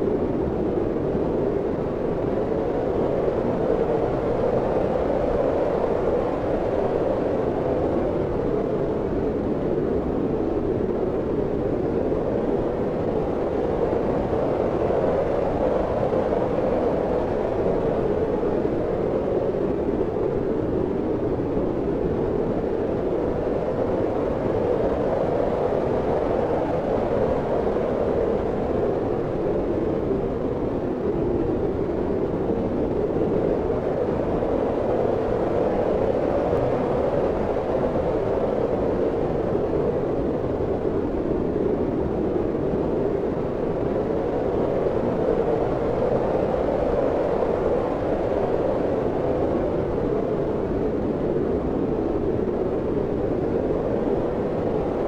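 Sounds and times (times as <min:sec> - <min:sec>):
steady wind blowing: 0:00.0 - 0:55.0.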